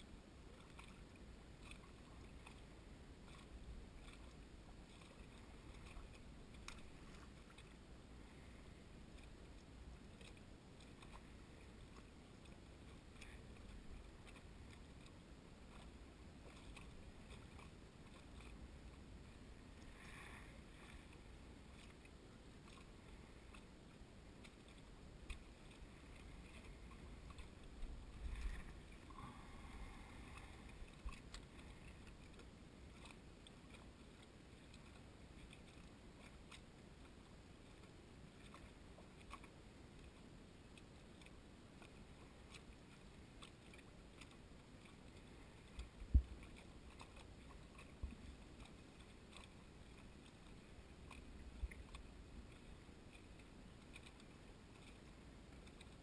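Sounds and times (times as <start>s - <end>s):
small waves lapping at dock: 0.0s - 56.0s.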